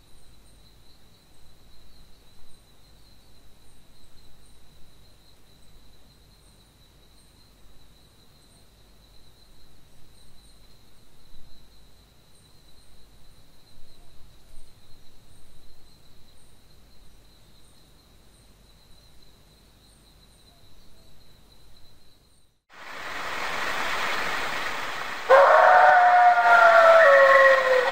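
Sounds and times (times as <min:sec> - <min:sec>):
faint insect chirps: 0:00.0 - 0:27.9
insect chorus drone: 0:00.0 - 0:27.9.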